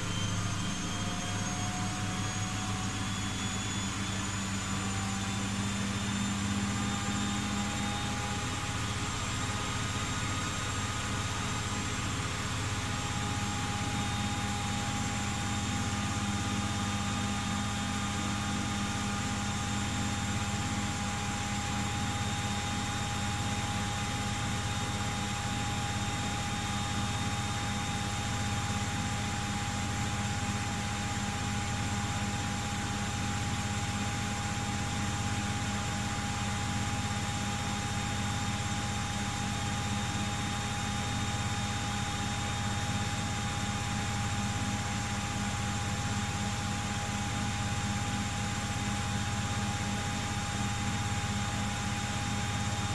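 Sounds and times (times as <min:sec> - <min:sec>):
washing machine motor whine: 0:00.0 - 0:52.9.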